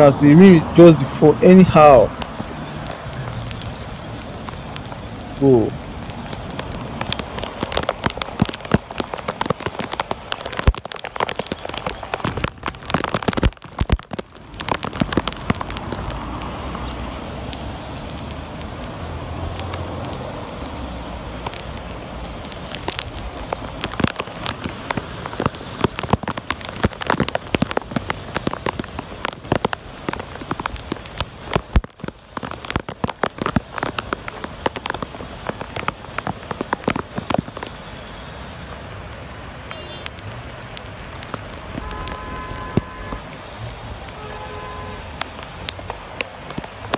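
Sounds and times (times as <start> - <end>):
rain drop taps: 0.0 - 37.9, 39.3 - 46.9
rain falling steadily: 0.0 - 46.9.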